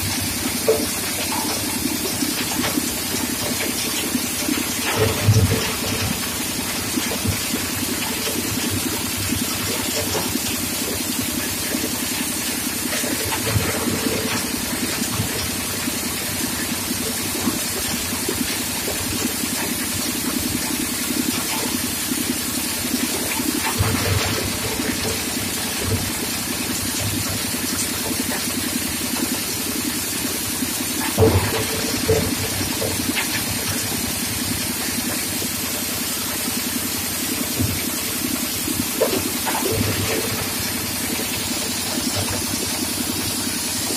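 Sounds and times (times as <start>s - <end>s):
coal crusher running: 0.0s - 43.9s.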